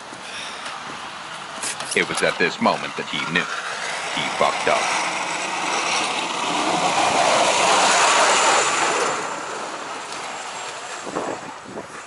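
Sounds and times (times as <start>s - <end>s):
vehicle passing by: 1.8s - 12.0s.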